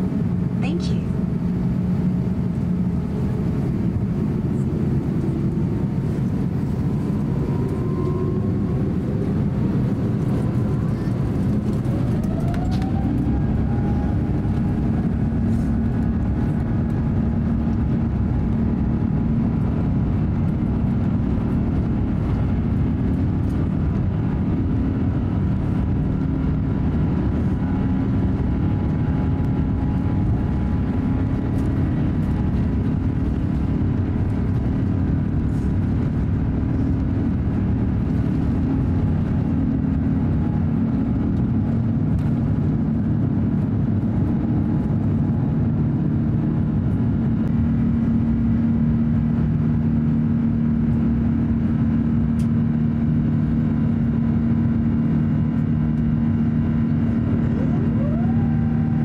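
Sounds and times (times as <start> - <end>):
deep cabin rumble: 0.0 - 59.0
jet engines whining: 0.0 - 59.0.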